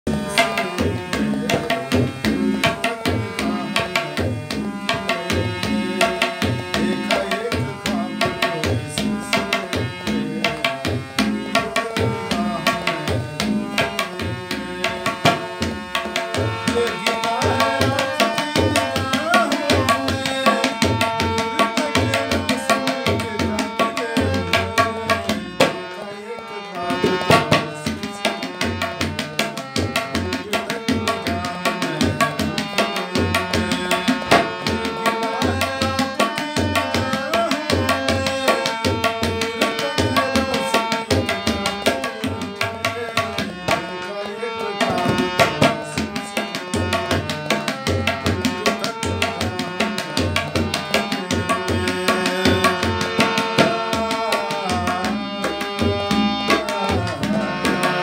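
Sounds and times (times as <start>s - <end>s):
harmonium melody: 0.0s - 58.0s
tabla rhythm: 0.0s - 58.0s.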